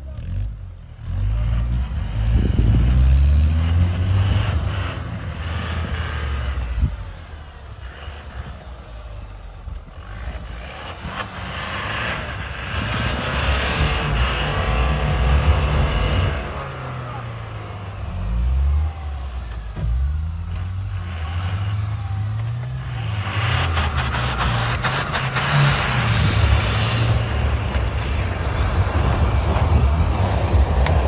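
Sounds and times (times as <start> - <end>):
truck engine revving hard: 0.0 - 8.8, 9.8 - 31.0
tyres spinning in snow: 1.0 - 31.0.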